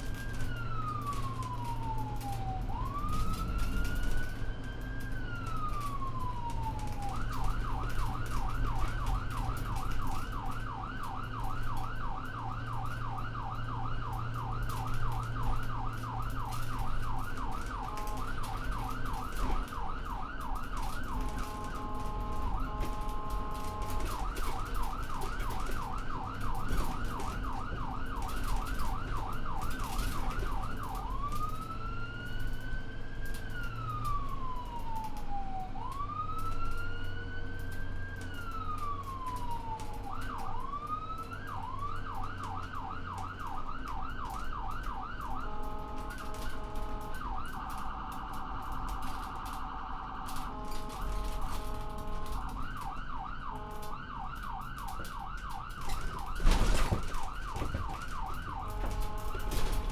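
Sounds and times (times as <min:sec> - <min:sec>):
ambulance siren: 0:00.0 - 0:59.9.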